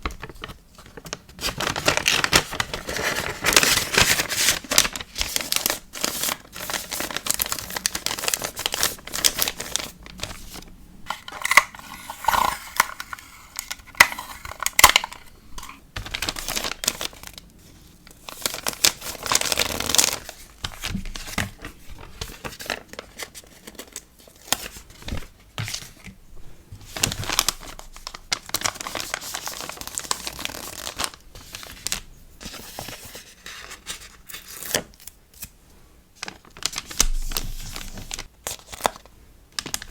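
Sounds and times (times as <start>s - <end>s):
plastic and paper crinkling: 0.0s - 35.6s, 36.2s - 39.9s.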